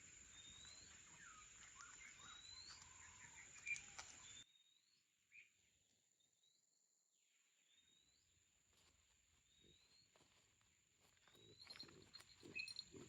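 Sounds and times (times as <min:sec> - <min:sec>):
faint bird chirps: 0:00.0 - 0:08.4, 0:09.4 - 0:10.4, 0:11.1 - 0:13.0.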